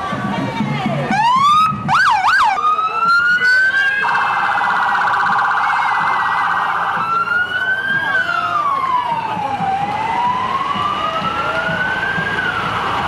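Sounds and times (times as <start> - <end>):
electronic siren: 1.1 - 13.0.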